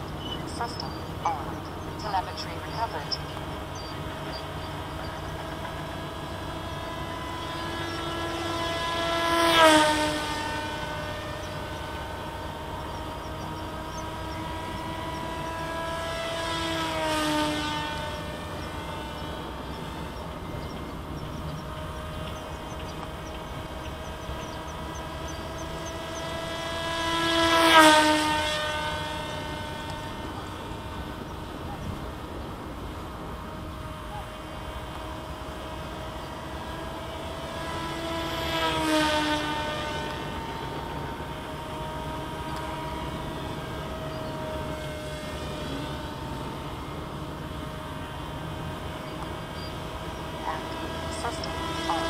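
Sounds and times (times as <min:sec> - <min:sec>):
rc plane electric motor humming: 0:00.0 - 0:52.0.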